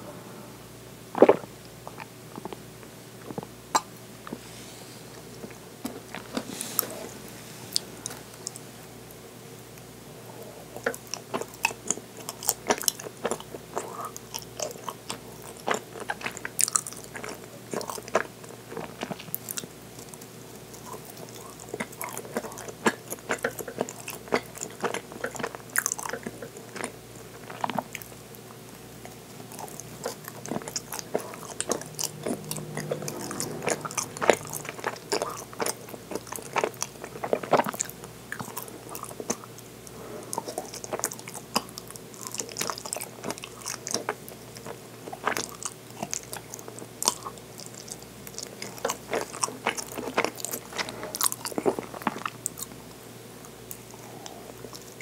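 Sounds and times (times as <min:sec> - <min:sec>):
chewing sticky food: 0:05.2 - 0:09.9, 0:10.6 - 0:55.0.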